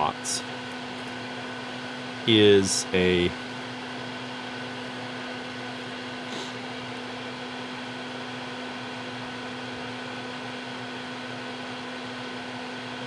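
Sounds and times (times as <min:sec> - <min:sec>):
fan-like hum and hiss: 0:00.0 - 0:13.0.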